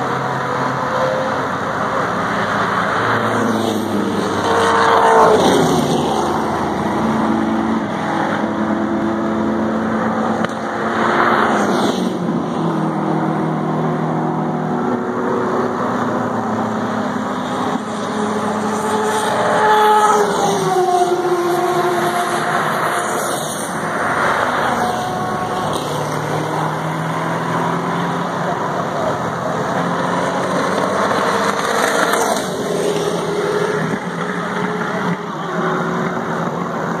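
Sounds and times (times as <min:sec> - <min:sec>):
race car engines passing: 0:00.0 - 0:37.0.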